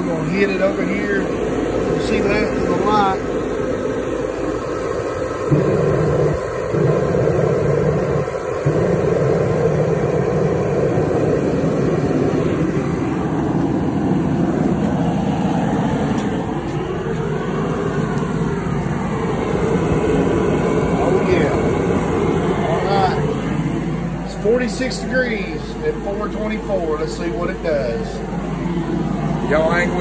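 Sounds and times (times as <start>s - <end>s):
heater fan blowing: 0.0s - 30.0s
low steady burner tone: 0.0s - 30.0s.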